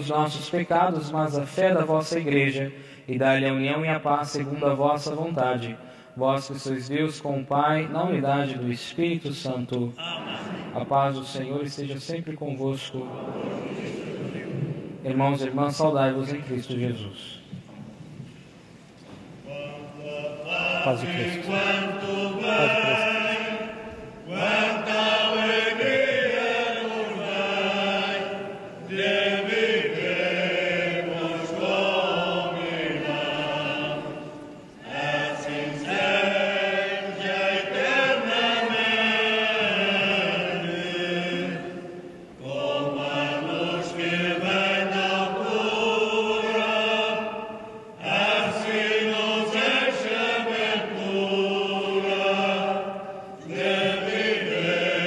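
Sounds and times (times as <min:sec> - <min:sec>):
slow hymn singing: 0:00.0 - 0:55.0.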